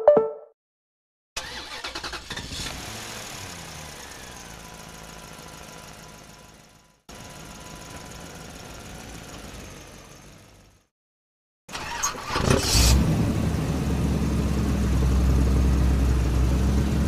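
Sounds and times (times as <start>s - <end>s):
vehicle engine starting and running: 1.4s - 10.9s, 11.7s - 17.0s.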